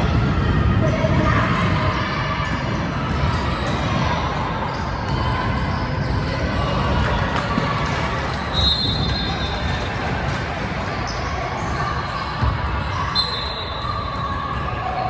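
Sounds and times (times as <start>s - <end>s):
crowd murmur and voices: 0.0s - 15.0s.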